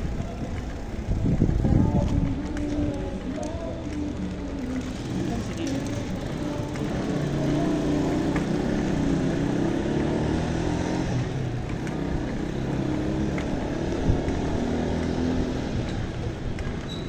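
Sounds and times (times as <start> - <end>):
car and motorcycle engines: 0.0 - 17.0
road noise: 0.0 - 17.0.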